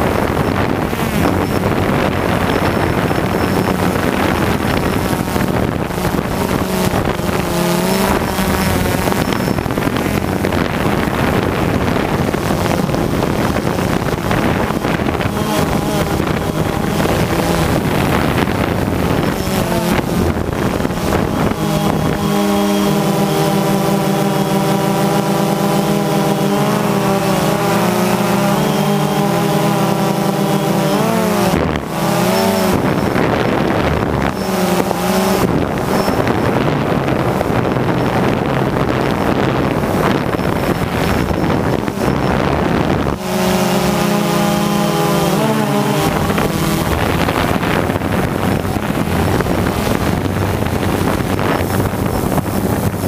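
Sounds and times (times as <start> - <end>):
drone propellers humming: 0.0 - 53.0
wind rushing over microphone: 0.0 - 53.0.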